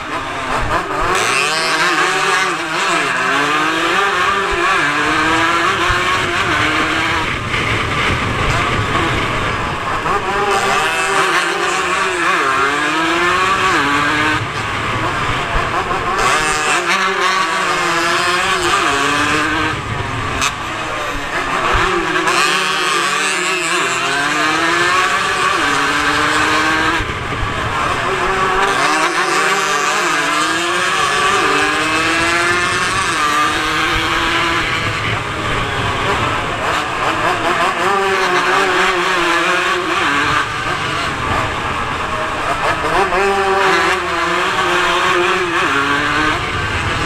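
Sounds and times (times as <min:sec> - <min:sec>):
racing motorcycles accelerating: 0:00.0 - 0:47.0.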